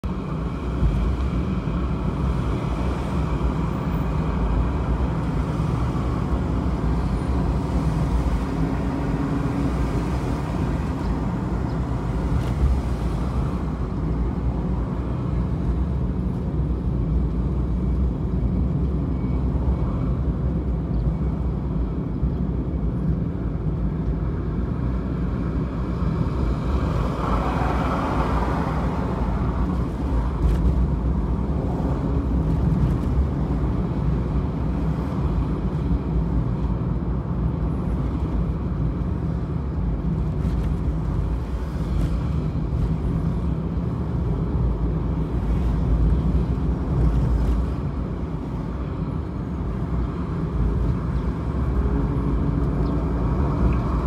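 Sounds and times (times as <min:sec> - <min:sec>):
tyre and road noise: 0:00.0 - 0:54.0.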